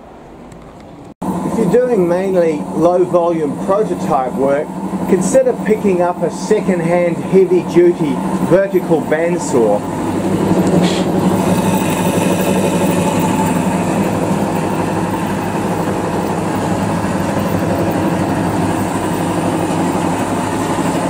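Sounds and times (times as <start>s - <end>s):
bandsaw cutting metal: 1.5s - 21.0s.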